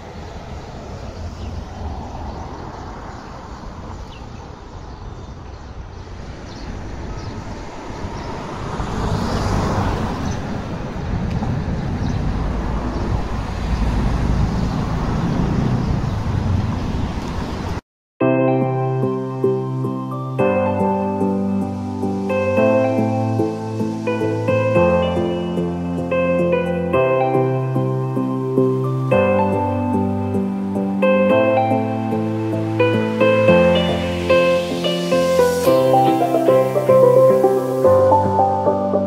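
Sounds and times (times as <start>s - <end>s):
rumble of passing vehicles: 0.0s - 17.8s, 19.2s - 39.0s.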